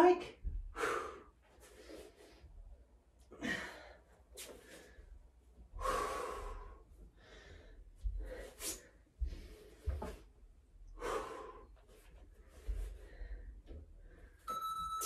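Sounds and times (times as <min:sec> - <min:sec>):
woman breathing hard: 0:00.6 - 0:02.5, 0:03.2 - 0:10.0, 0:10.9 - 0:14.4.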